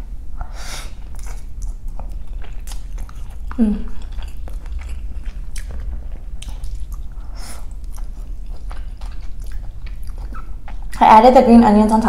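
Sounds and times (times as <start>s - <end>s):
wet chewing mouth sounds: 0.8s - 11.0s.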